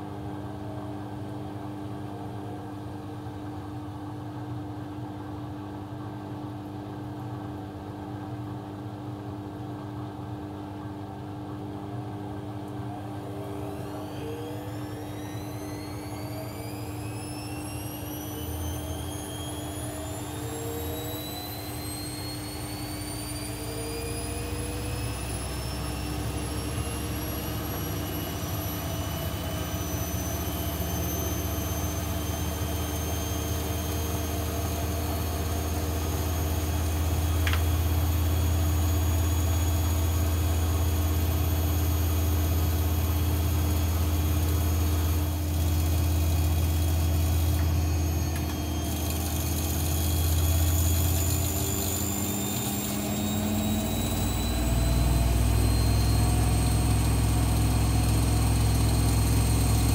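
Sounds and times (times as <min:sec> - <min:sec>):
washing machine hum: 0:00.0 - 0:59.9
motor whine climbing in pitch: 0:11.9 - 0:59.9.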